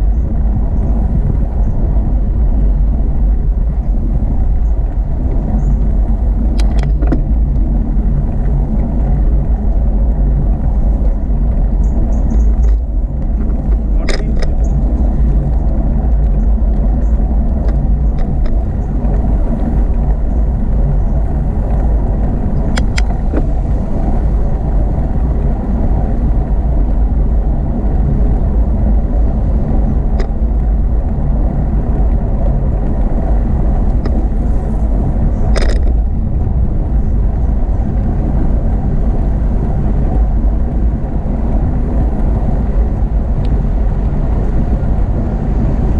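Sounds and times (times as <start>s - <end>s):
bicycle road noise: 0.0s - 45.9s
wind buffeting microphone: 0.0s - 45.9s.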